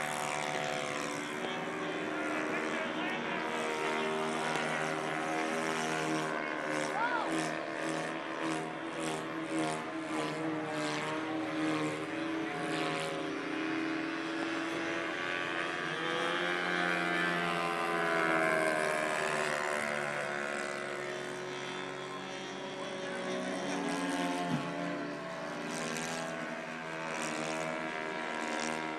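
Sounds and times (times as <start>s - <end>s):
model plane motor droning: 0.0s - 28.9s.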